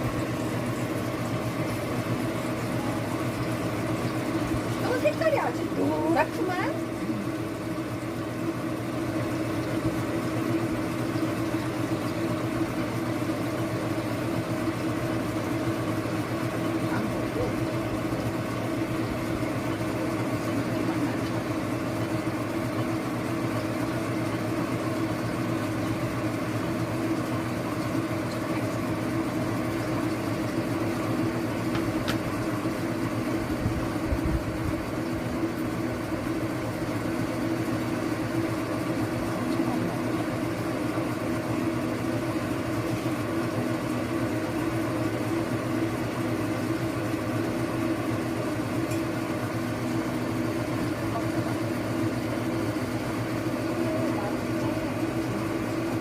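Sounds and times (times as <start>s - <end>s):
oil press motor hum: 0.0s - 56.0s.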